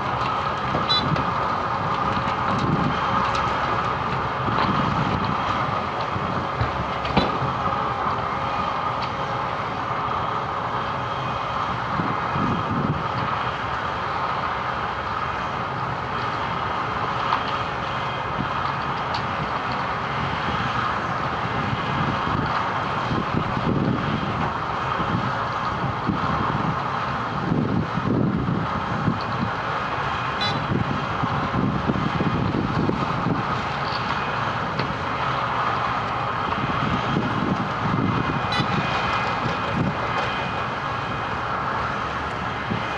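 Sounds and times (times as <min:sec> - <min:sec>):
heavy diesel machinery running: 0:00.0 - 0:42.9.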